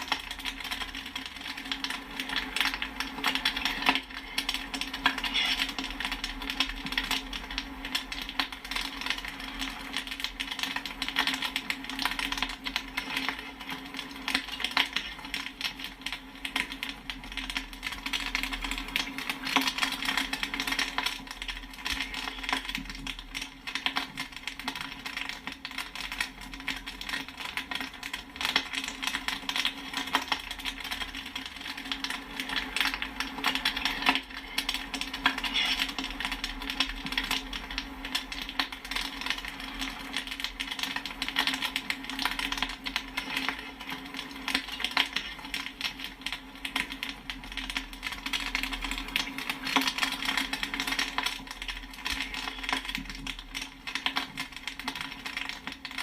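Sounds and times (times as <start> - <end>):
popcorn popping: 0.0 - 56.0.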